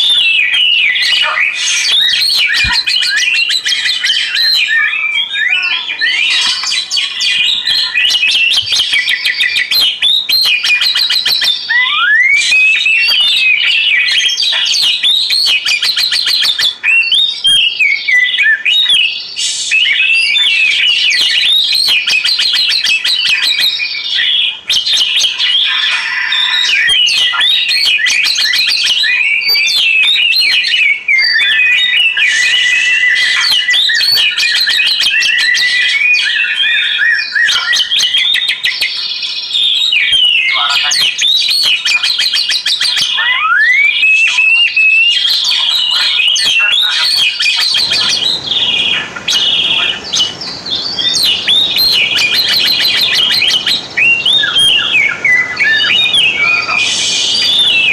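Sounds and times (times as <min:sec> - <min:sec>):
bird singing whistled phrases: 0:00.0 - 0:57.9.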